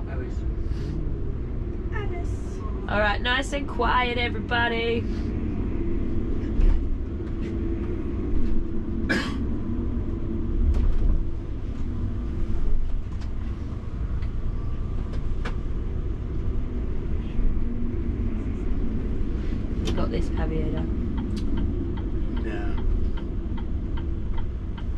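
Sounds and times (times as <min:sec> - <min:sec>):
diesel engine low rumble: 0:00.0 - 0:24.9.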